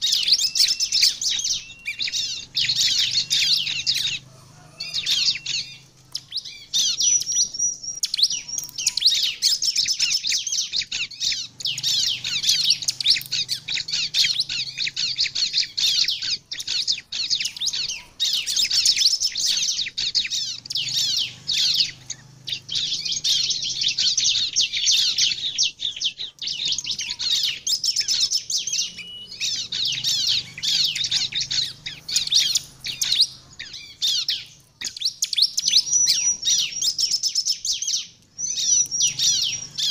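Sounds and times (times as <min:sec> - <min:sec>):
bird singing rapid chirps and trills: 0:00.0 - 0:39.9.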